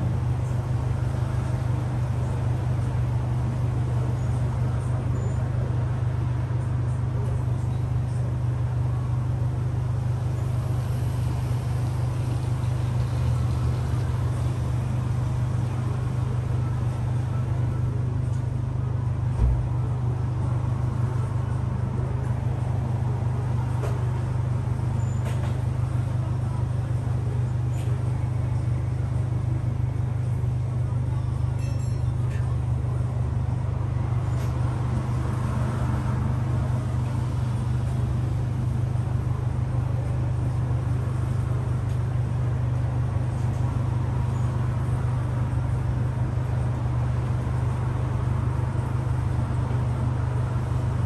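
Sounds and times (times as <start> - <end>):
low mechanical drone: 0.0 - 51.0.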